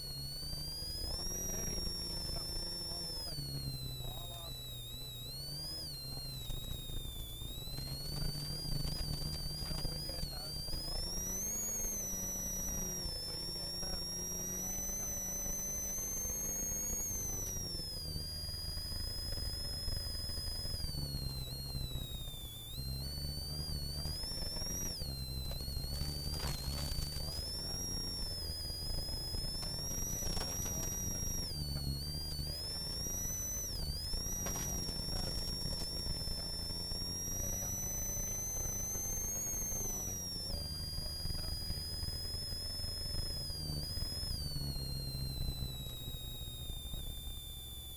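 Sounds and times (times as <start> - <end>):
car engine at speed: 0.0 - 47.9
high-pitched turbo whine: 0.0 - 47.9.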